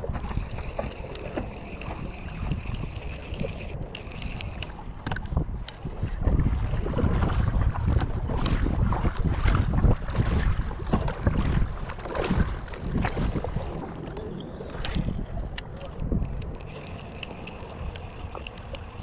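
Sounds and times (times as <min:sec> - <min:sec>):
water slapping against hull: 0:00.0 - 0:19.0
wind buffeting microphone: 0:00.0 - 0:19.0.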